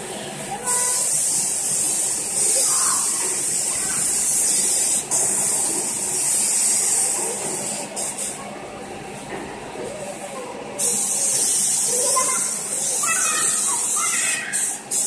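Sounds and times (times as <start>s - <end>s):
car wash jets hissing: 0.0s - 15.0s.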